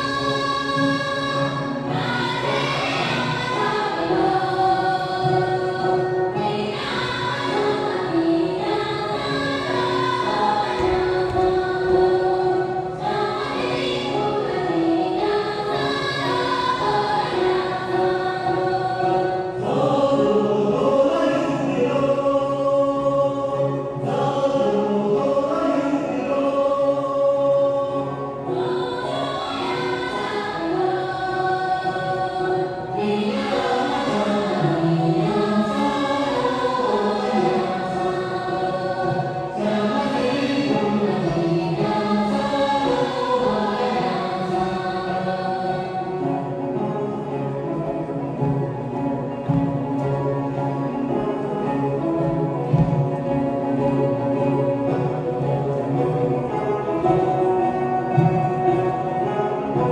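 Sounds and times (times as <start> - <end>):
choir singing folk song: 0.0 - 59.9
plucked lute: 0.0 - 59.9.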